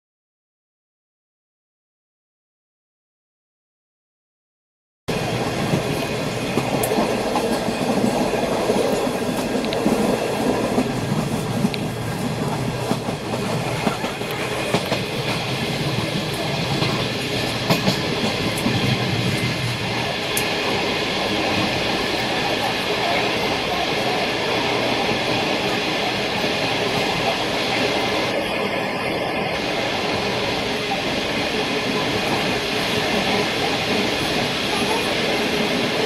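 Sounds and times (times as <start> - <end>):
train wheels rumbling on rails: 5.1 - 36.0.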